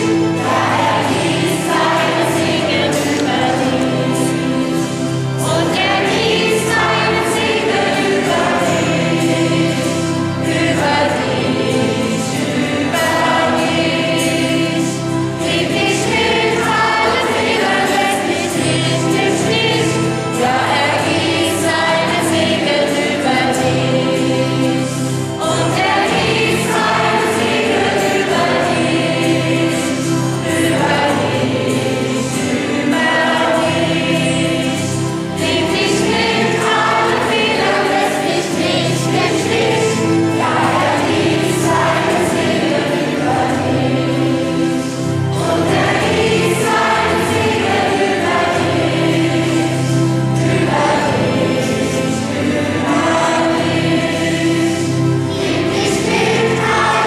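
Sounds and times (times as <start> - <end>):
choir singing: 0.0 - 57.0
keyboard accompaniment: 0.0 - 57.0.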